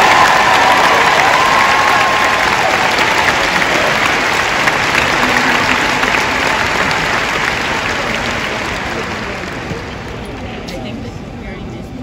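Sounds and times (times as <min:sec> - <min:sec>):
arena crowd applauding: 0:00.0 - 0:10.7.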